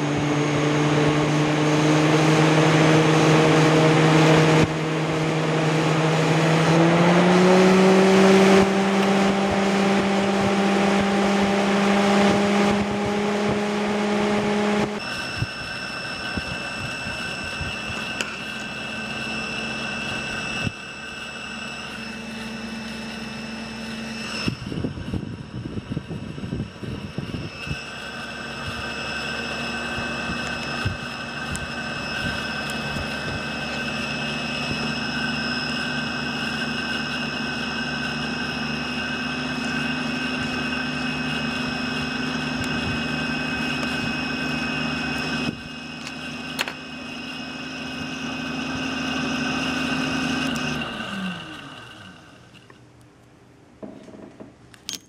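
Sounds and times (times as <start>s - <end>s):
electric fan whining: 0.0s - 55.0s.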